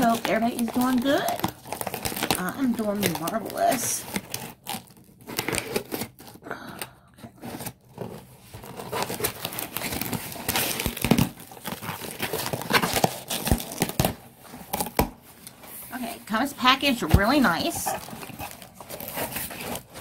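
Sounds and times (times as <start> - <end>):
plastic mailer tearing and crinkling: 0.0 - 6.5, 7.2 - 20.0.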